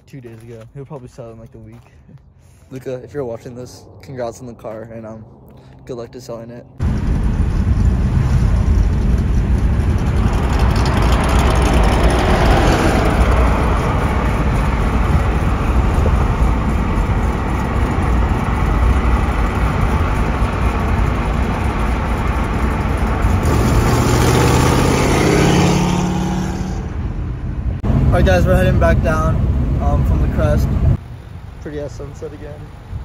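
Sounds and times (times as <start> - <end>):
rising engine note: 3.3 - 30.9
car road and engine noise: 5.2 - 33.0.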